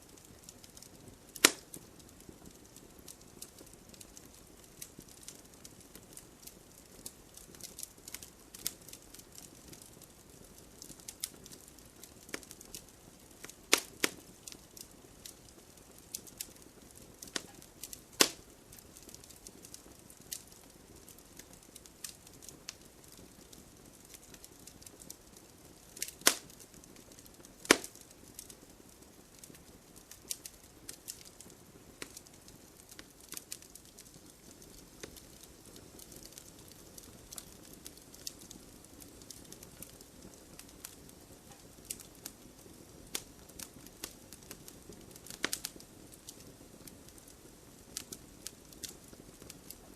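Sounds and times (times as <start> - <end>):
campfire crackling: 0.0 - 49.9
loud fire snaps: 0.0 - 49.9.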